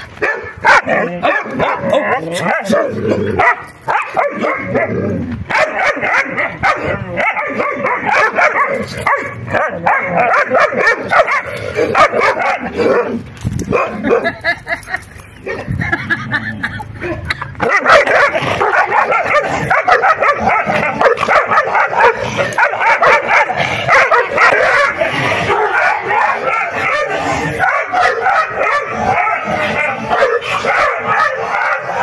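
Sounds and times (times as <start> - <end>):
puppies yipping and barking: 0.0 - 4.9, 5.5 - 32.0.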